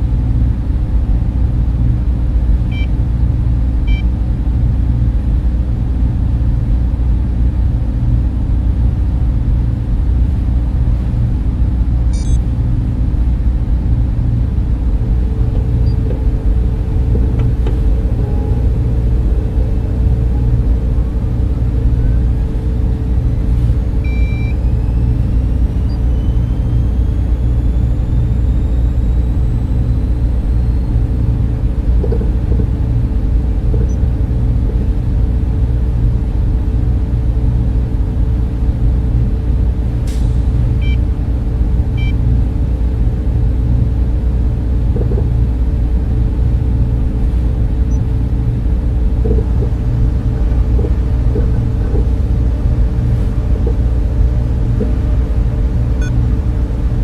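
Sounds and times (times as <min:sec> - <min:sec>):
cooling fans rumbling: 0:00.0 - 0:57.0.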